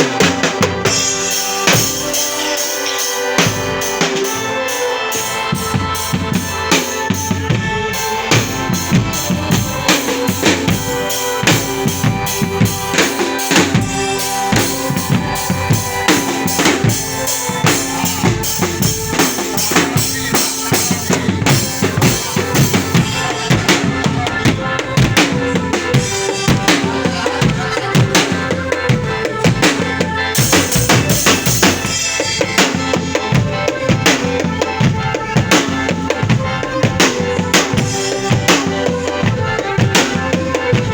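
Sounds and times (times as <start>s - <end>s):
drums in quick rhythm: 0.0s - 40.9s
held melodic tones: 0.0s - 40.9s.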